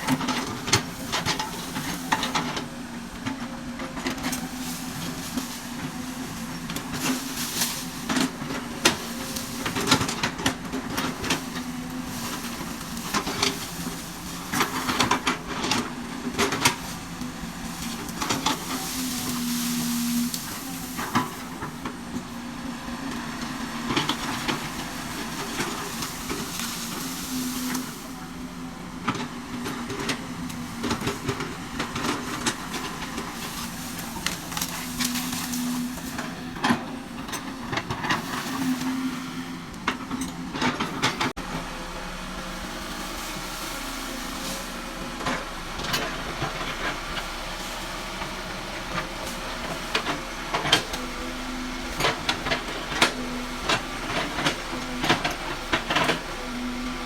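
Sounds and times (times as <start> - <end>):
excavator engine droning: 0.0 - 57.0.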